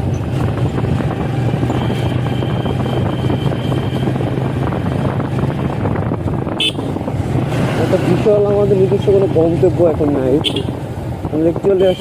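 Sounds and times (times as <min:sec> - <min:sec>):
motorcycle engine running: 0:00.0 - 0:11.8
wind rushing over microphone: 0:00.0 - 0:12.0.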